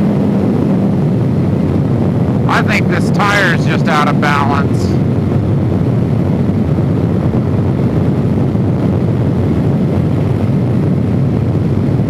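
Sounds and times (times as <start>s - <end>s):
motorcycle engine running at speed: 0.0s - 12.0s
wind rush: 0.0s - 12.0s.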